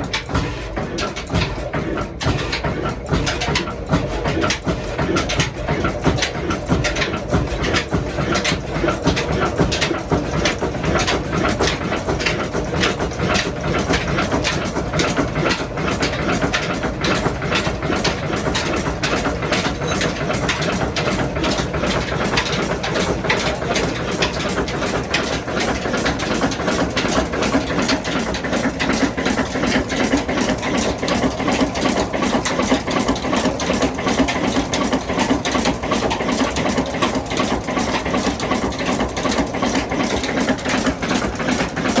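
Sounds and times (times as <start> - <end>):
diesel engine clattering: 0.0 - 42.0.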